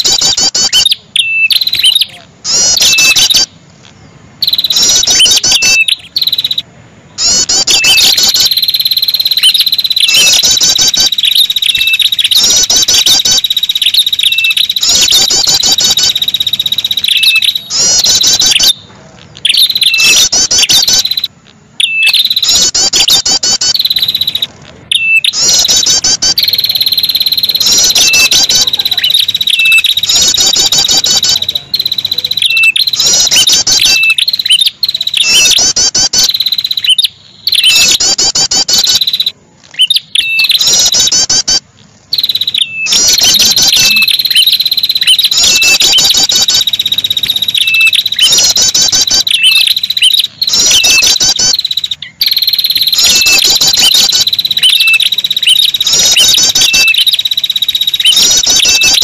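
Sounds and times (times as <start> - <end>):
bird calls with rapid high notes: 0.0 - 3.6, 4.4 - 59.0
high-pitched trill: 4.4 - 18.8, 19.5 - 39.3, 42.2 - 59.0.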